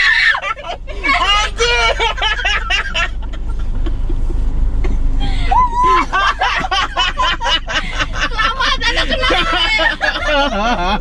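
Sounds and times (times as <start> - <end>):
people laughing and squealing: 0.0 - 4.4, 5.2 - 11.0
car cabin low rumble: 0.0 - 11.0.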